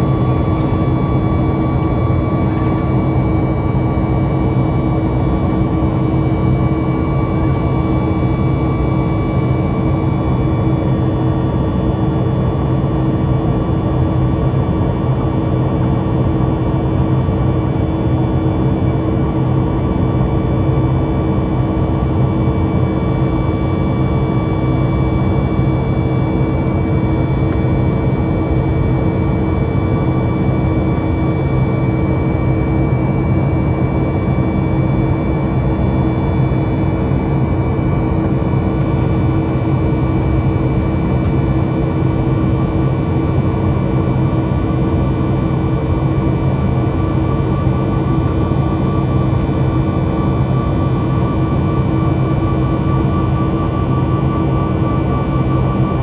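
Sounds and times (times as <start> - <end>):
constant humming tones: 0.0 - 56.0
jet engine rush in cabin: 0.0 - 56.0.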